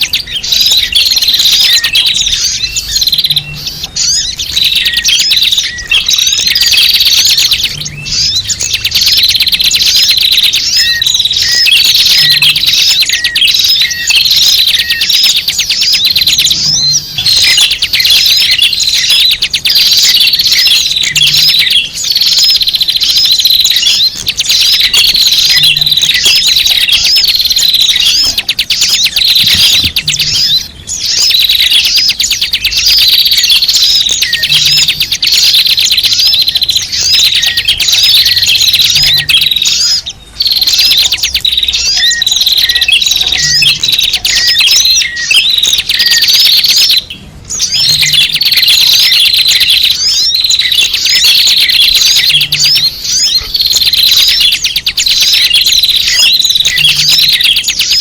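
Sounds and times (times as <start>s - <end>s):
flock of small birds chirping: 0.0s - 58.0s.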